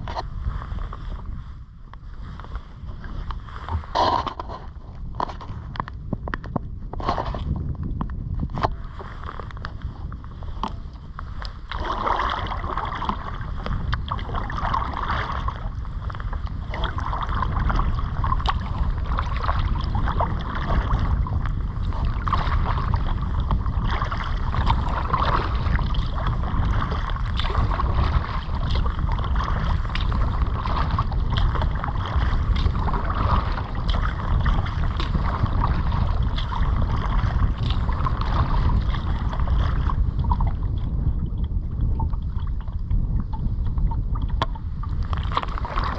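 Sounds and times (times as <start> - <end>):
wind rumble on microphone: 0.0 - 45.9
paddle splashing in water: 2.0 - 5.7, 8.5 - 41.1, 43.7 - 45.9.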